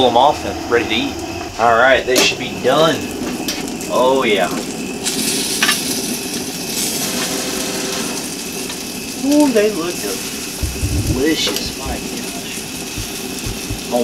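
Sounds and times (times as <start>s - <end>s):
grill hissing: 0.0s - 14.0s.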